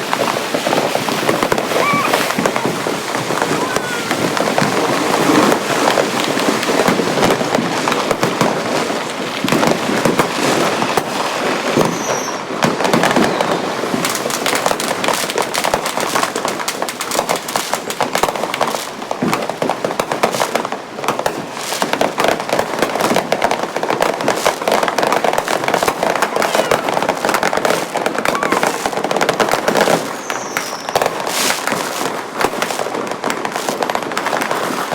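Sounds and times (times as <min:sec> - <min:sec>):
firecrackers and fireworks popping: 0:00.0 - 0:34.9.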